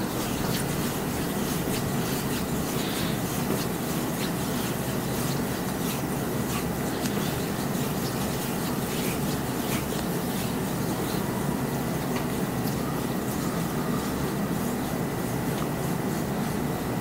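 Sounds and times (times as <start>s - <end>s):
oiled hands rubbing skin: 0.0s - 17.0s.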